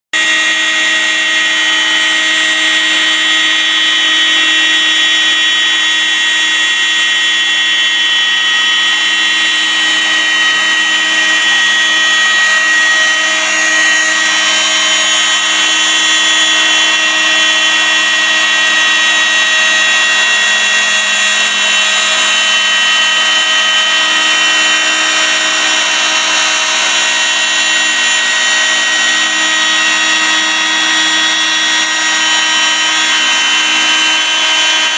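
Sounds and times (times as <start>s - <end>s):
cutter cutting wood: 0.1s - 34.9s
milling spindle whine: 0.1s - 34.9s.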